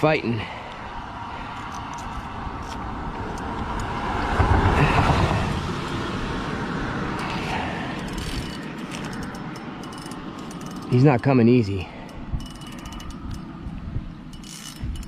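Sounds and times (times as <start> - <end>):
traffic rushing on bridge overhead: 0.0 - 15.0
vehicle passing: 0.3 - 13.6.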